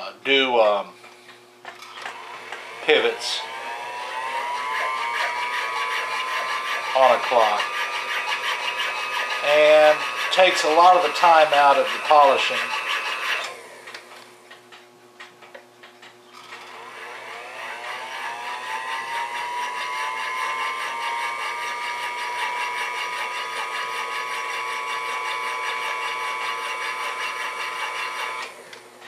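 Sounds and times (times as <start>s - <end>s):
lathe motor whine: 1.8s - 14.4s, 16.4s - 29.0s.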